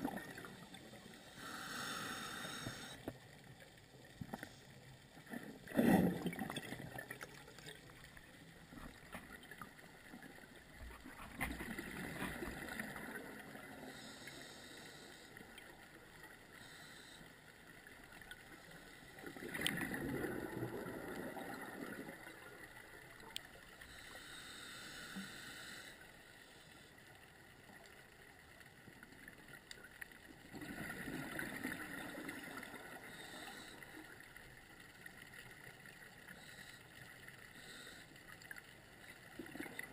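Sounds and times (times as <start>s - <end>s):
faint regulator hiss: 0.0s - 5.8s, 6.7s - 19.8s, 20.4s - 30.5s, 31.5s - 39.9s.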